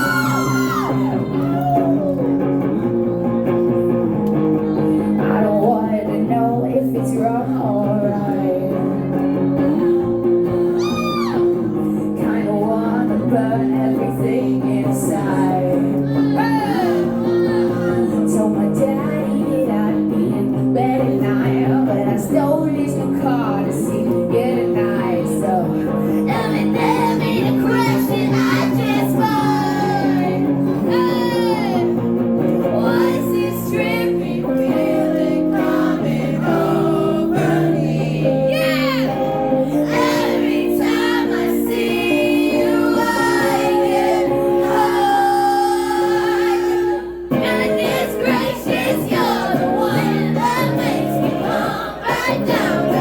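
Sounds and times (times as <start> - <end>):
woman singing: 0.0 - 2.3, 4.4 - 53.0
guitar chords: 0.0 - 53.0.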